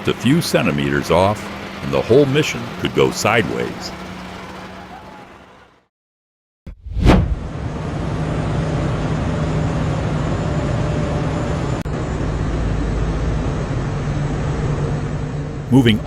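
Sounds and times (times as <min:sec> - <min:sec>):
road noise: 0:00.0 - 0:05.9, 0:07.2 - 0:16.0
truck engine drone: 0:00.0 - 0:05.9, 0:07.3 - 0:16.0.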